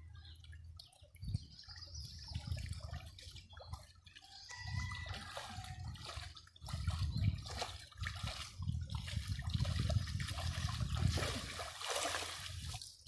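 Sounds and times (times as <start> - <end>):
river water sloshing and splashing: 0.4 - 13.0.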